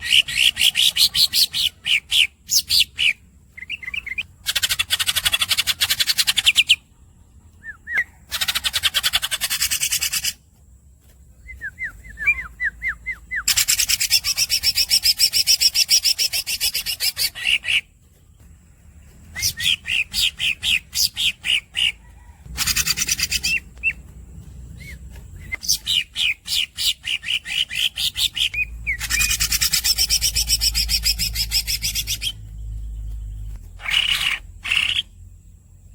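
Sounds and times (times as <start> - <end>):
bird rolling trills: 0.0 - 6.8, 7.6 - 10.6, 11.4 - 35.1
bird squeaky chirps: 0.0 - 6.8, 7.6 - 10.4, 11.5 - 18.0, 19.2 - 24.0, 24.7 - 35.2.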